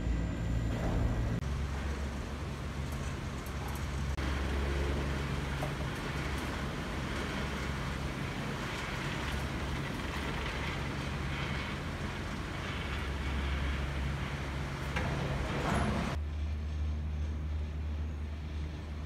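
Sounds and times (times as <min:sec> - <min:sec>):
gondola lift machinery humming: 0:00.0 - 0:19.0.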